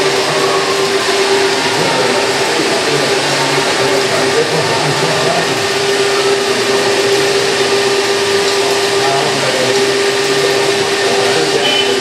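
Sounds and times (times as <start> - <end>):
hydraulic pump whine: 0.0 - 12.0.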